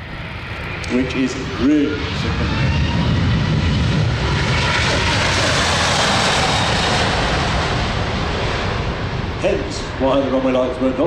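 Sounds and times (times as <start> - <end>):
jet airliner passing low: 0.0 - 11.0.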